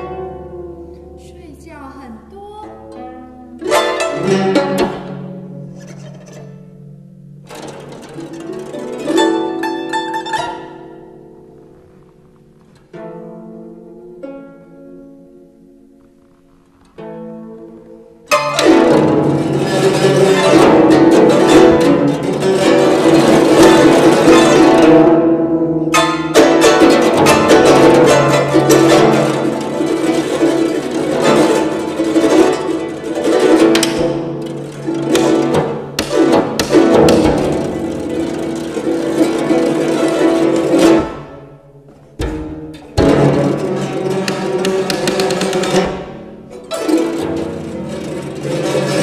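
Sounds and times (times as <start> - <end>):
plucked zither: 0.0 - 16.0, 16.9 - 49.0.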